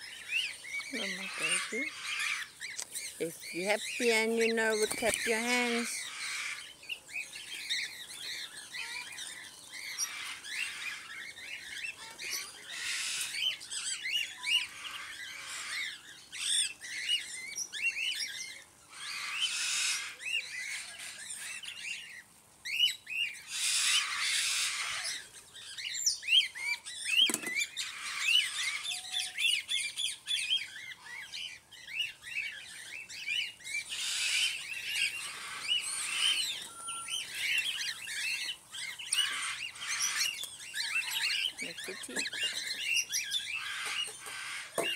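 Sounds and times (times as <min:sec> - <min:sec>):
cockatiels chirping and calling: 0:00.0 - 0:44.9.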